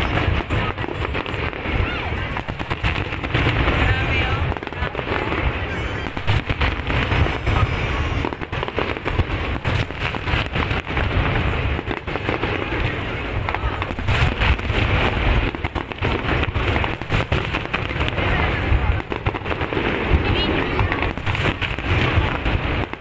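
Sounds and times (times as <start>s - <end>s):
fireworks booming and crackling: 0.0s - 23.0s.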